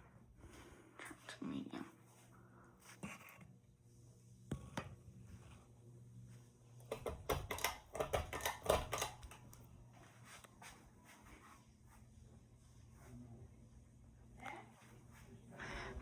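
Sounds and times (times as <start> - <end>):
ceiling fan motor hum: 0.0 - 16.0.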